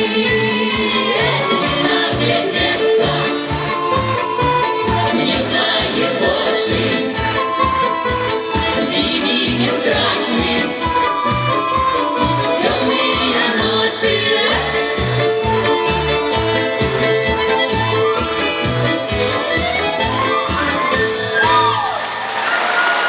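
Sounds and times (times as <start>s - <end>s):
live folk ensemble music: 0.0s - 22.4s.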